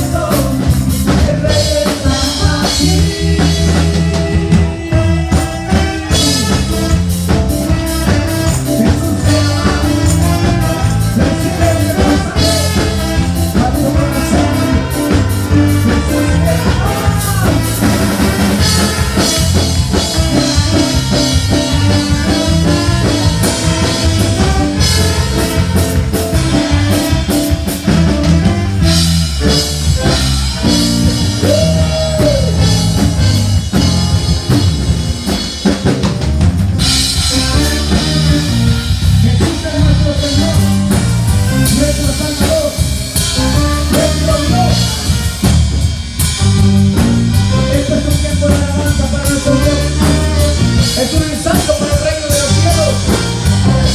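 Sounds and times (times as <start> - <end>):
live band music: 0.0 - 53.9.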